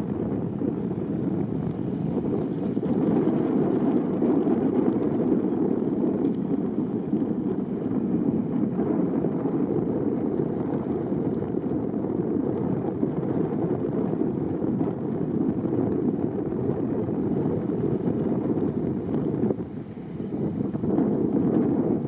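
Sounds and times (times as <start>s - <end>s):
boat rumbling: 0.0s - 22.0s
wind on microphone: 0.0s - 22.0s.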